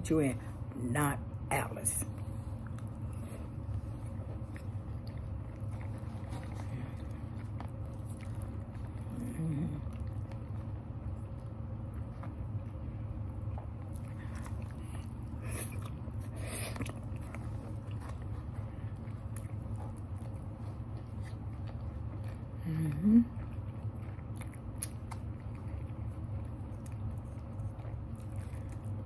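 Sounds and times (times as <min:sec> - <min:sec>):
steady low hum: 0:00.0 - 0:29.0
chewing salad: 0:01.8 - 0:29.0.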